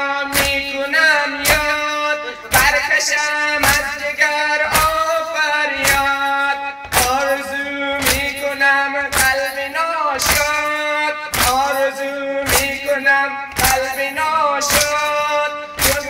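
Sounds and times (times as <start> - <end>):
chest beating slaps: 0.0 - 16.0
man singing a lament: 0.0 - 16.0.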